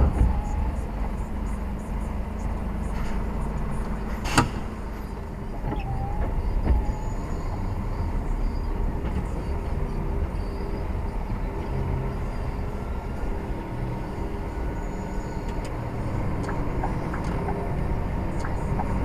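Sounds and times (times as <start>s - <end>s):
lorry engine and road rumble: 0.0s - 19.0s.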